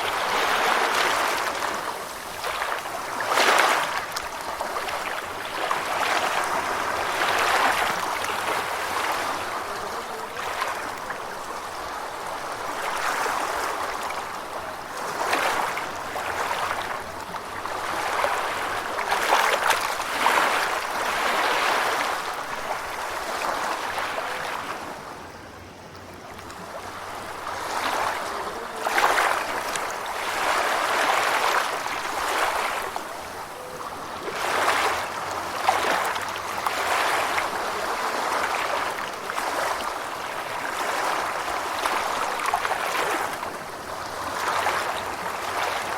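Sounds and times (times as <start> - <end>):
ocean waves lapping: 0.0 - 45.9.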